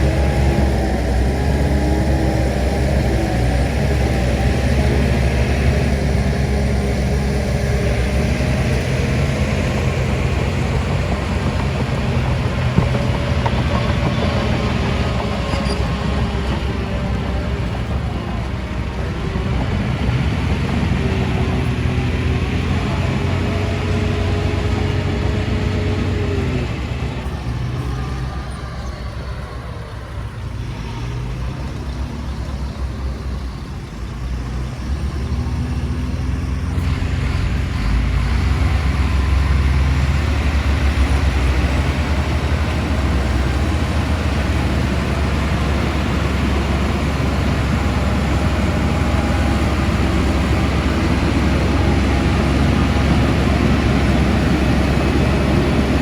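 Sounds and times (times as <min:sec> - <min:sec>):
diesel construction machinery rumbling: 0:00.0 - 0:56.0.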